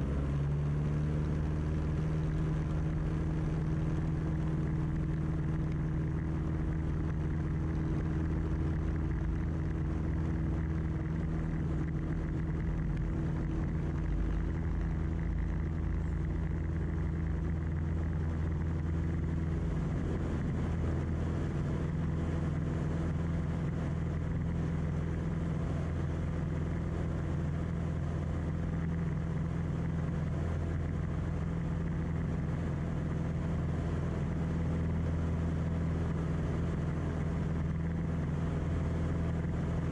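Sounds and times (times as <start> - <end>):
plane engine and propeller: 0.0 - 39.9.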